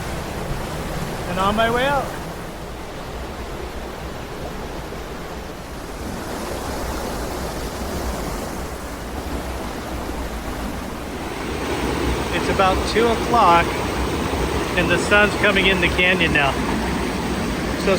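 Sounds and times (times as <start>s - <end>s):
rushing creek water: 0.0s - 17.9s.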